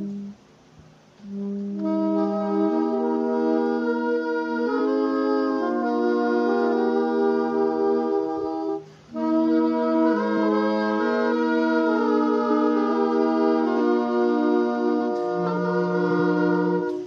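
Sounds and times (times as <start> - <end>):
saxophones playing a slow hymn: 0.0 - 0.5, 1.2 - 17.0.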